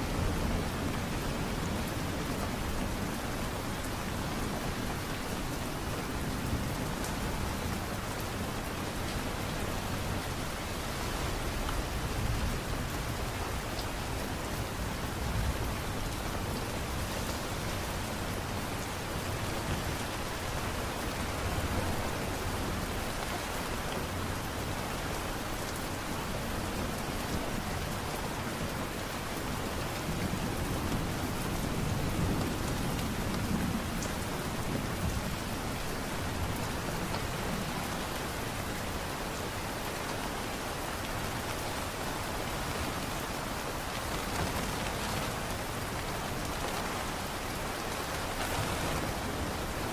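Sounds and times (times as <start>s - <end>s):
light rain falling: 0.0s - 49.9s.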